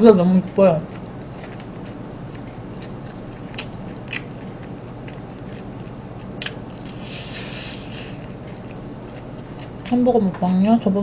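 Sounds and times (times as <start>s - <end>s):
chewing crispy fried chicken: 0.1s - 10.5s.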